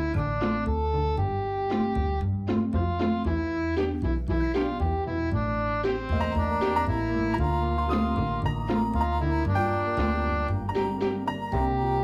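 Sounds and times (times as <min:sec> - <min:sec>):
bouncy instrumental tune: 0:00.0 - 0:12.0.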